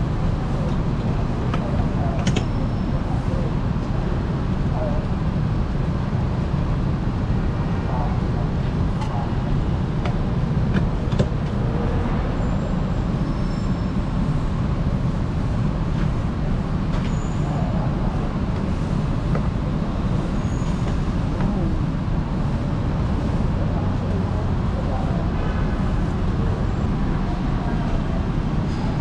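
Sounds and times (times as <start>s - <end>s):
low market rumble: 0.0s - 29.0s.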